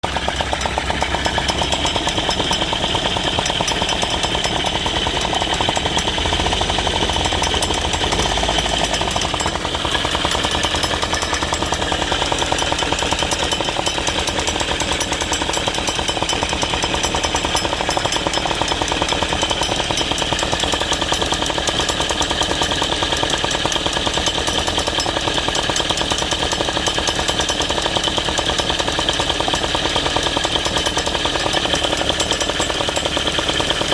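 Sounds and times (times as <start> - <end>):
two-stroke scooter engine buzzing: 0.0 - 33.9.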